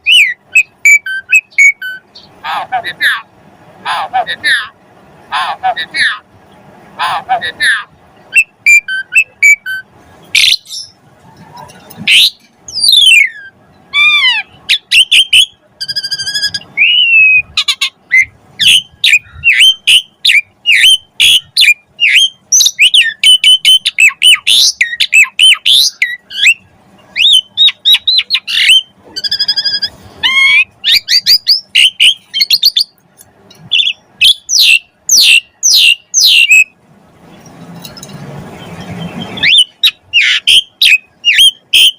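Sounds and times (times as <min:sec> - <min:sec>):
starling singing: 0:00.0 - 0:36.8, 0:37.4 - 0:41.9.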